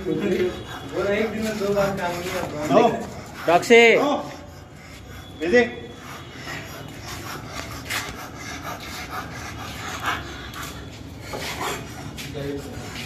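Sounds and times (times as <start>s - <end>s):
dog panting: 0.0s - 13.0s
rubbing and scuffing: 0.1s - 5.2s, 6.4s - 10.0s, 10.6s - 13.0s.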